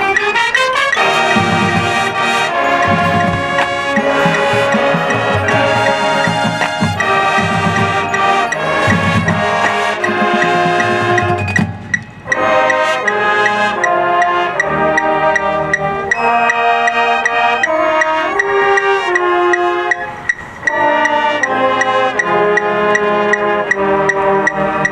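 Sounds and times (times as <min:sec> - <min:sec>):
marching band playing: 0:00.0 - 0:24.9.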